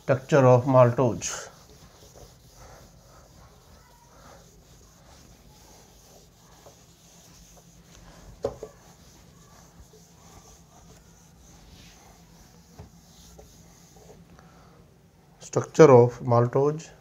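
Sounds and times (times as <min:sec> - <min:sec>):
duster rubbing on whiteboard: 0:00.0 - 0:14.3.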